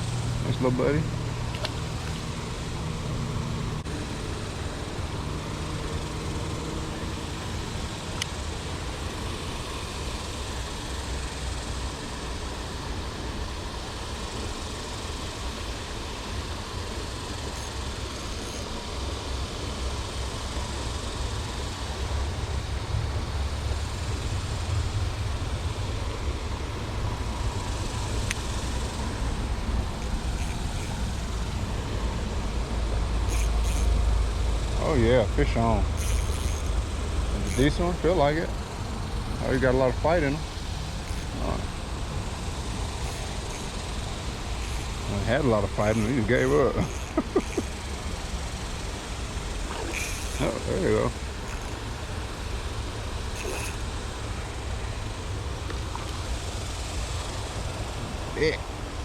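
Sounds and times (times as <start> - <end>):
low rumble with hiss: 0.0 - 59.0.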